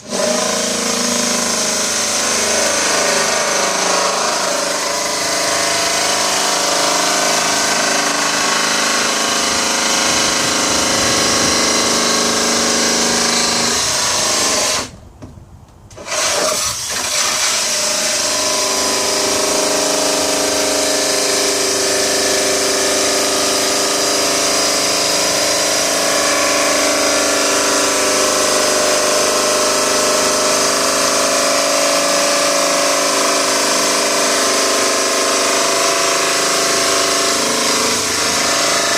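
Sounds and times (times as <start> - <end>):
electric power tool cutting: 0.0 - 15.0, 15.9 - 38.9.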